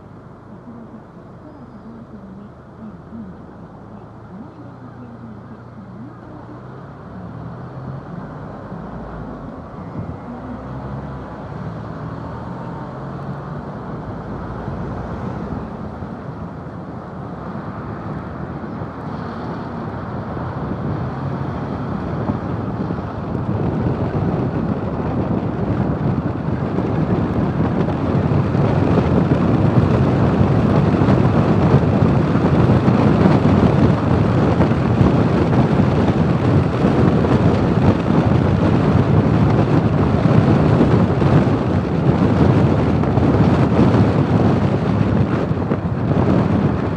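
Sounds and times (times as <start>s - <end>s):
low engine hum: 0.0s - 46.9s
wind rushing over microphone: 0.0s - 46.9s.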